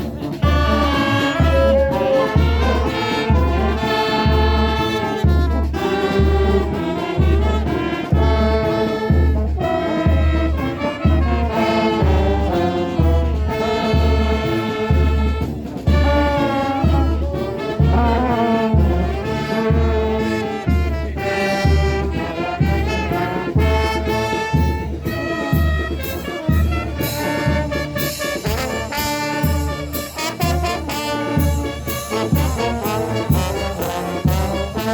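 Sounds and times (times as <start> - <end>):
brass band playing a march: 0.0 - 34.9.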